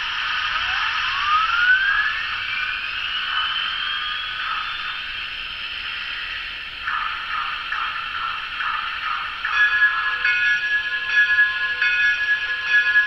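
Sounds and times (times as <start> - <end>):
high generator whine: 0.0 - 13.0
rhythmic air pump strokes: 0.0 - 13.0
steam hiss: 0.0 - 13.0.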